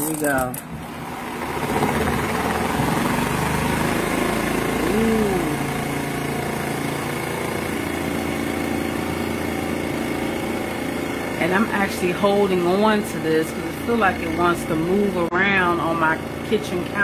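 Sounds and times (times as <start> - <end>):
spin dryer motor humming: 0.0 - 17.0.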